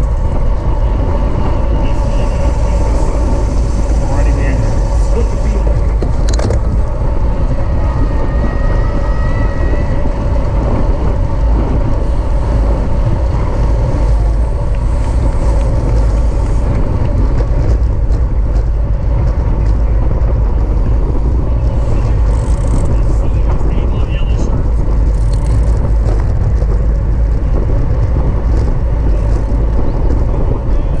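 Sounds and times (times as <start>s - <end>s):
constant hum: 0.0s - 31.0s
wind buffeting microphone: 0.0s - 31.0s.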